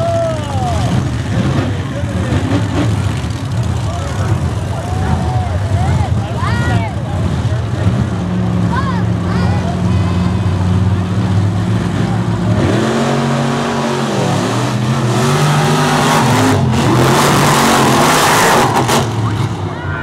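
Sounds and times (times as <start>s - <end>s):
truck engines idling and revving: 0.0s - 20.0s.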